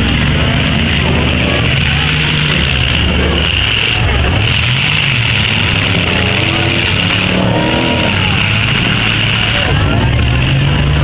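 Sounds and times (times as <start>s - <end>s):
car engines revving: 0.0s - 11.0s
crowd voices: 0.0s - 11.0s.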